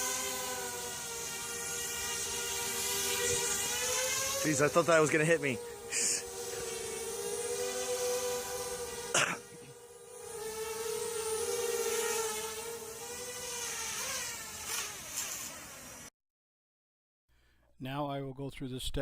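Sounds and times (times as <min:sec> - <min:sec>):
quadcopter propellers buzzing: 0:00.0 - 0:16.1.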